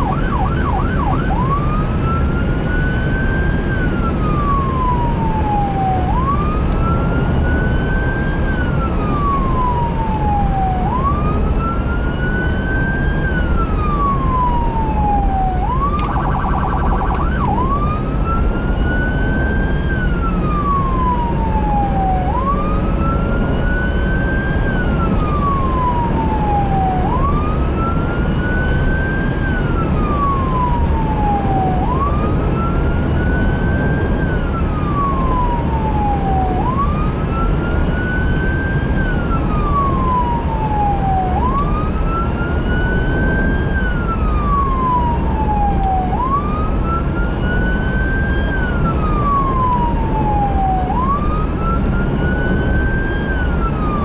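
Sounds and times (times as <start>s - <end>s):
emergency vehicle siren wailing: 0.0s - 54.0s
engine and road rumble: 0.0s - 54.0s.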